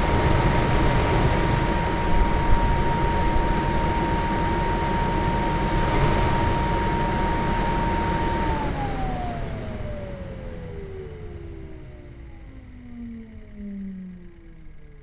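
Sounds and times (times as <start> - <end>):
cooling fan whine: 0.0 - 15.0.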